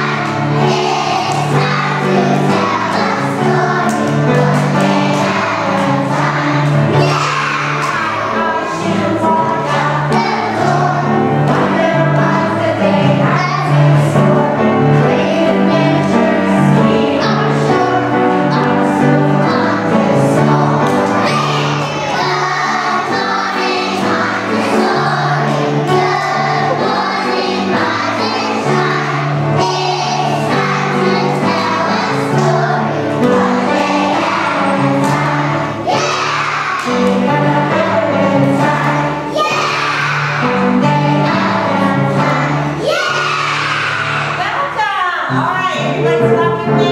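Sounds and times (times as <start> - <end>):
children singing: 0.0 - 44.4
instrumental accompaniment: 0.0 - 46.9.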